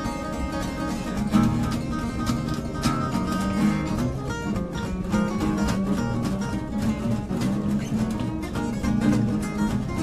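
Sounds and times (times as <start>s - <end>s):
acoustic guitars fingerstyle: 0.0s - 10.0s.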